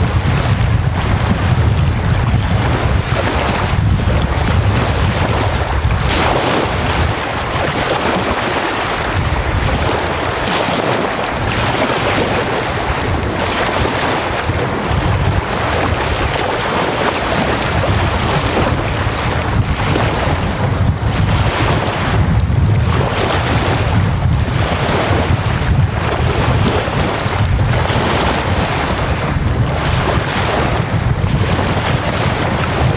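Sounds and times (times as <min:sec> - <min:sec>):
gusting wind: 0:00.0 - 0:32.9
waves washing onto beach: 0:00.0 - 0:32.9
wind rumble on microphone: 0:00.0 - 0:32.9.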